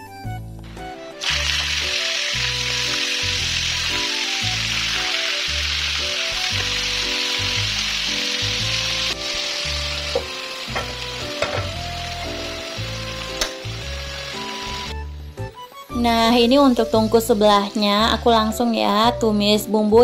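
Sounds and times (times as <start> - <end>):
background music: 0.0 - 20.0
fish sizzling in hot oil: 1.1 - 15.1, 15.7 - 18.5.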